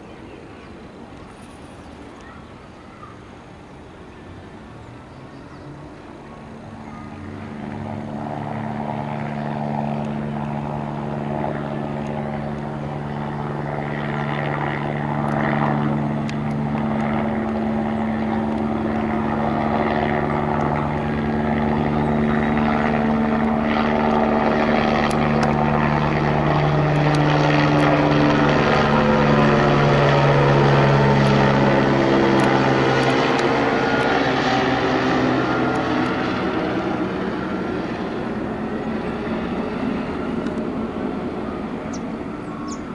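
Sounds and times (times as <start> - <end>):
helicopter turbine and rotors: 0.0 - 42.9.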